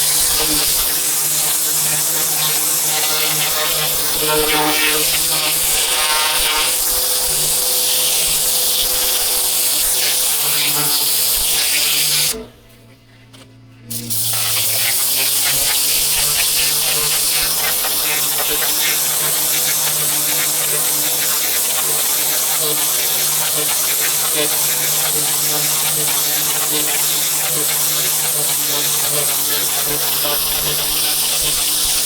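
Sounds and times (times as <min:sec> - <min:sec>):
pressure washer spraying: 0:00.0 - 0:12.4, 0:14.0 - 0:32.0.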